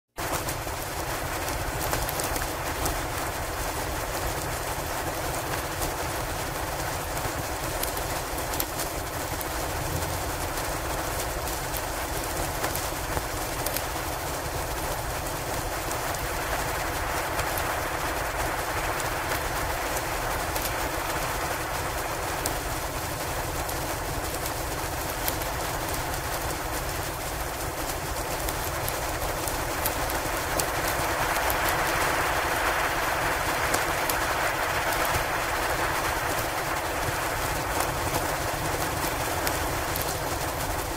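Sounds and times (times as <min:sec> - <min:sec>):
wind and blowing snow hiss: 0:00.2 - 0:40.9
faint clicks: 0:06.8 - 0:40.9.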